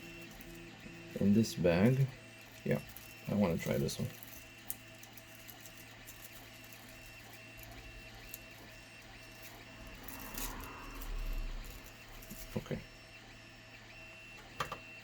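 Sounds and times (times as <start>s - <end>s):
stepper motors humming with pulsing tone: 0.0s - 15.0s.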